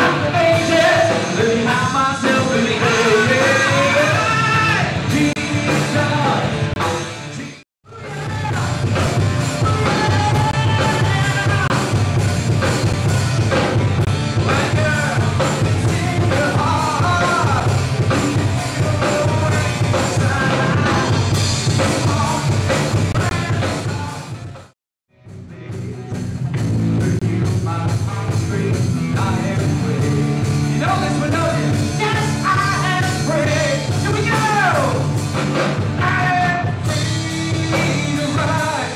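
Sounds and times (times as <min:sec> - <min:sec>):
live rock band with singer: 0:00.0 - 0:38.9.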